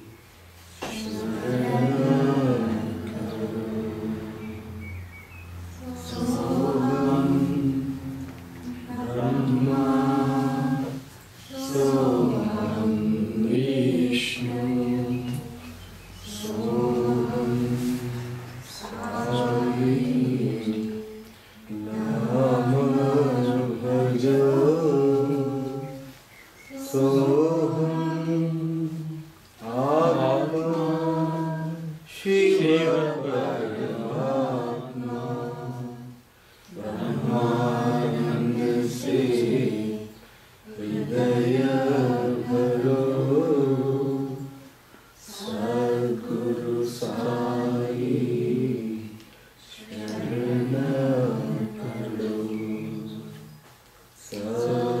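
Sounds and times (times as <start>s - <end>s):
voices singing devotional song: 0.0s - 55.0s.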